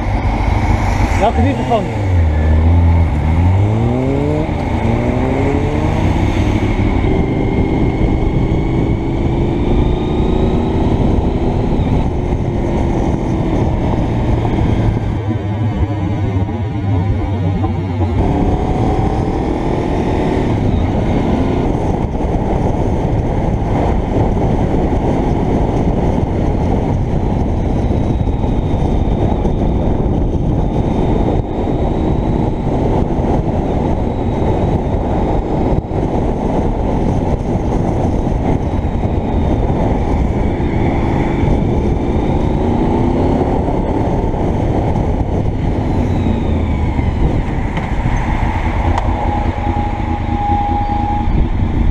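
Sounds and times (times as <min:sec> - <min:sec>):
motorcycle engine running: 0:00.0 - 0:51.9
wind rush on helmet: 0:00.0 - 0:51.9.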